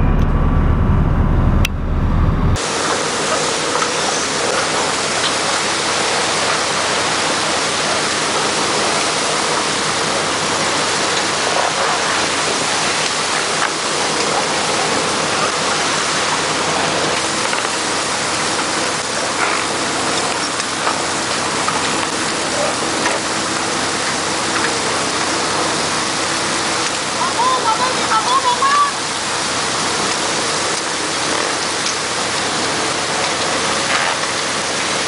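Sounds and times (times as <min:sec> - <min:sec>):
seawater splashing and churning: 0:02.6 - 0:35.0.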